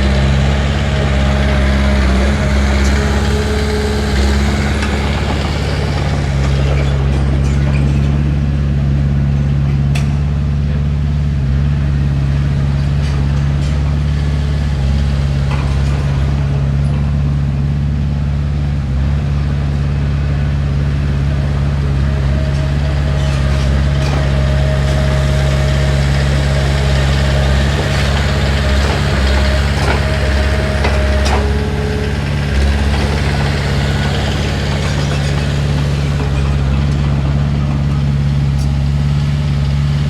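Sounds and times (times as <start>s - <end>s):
heavy diesel engine rumbling: 0.0s - 40.0s.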